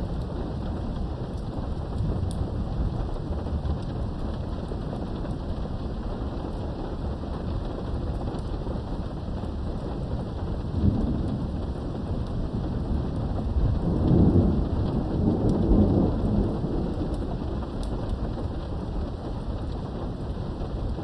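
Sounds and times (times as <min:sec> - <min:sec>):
low rolling thunder: 0:00.0 - 0:21.0
steady rain: 0:00.0 - 0:21.0.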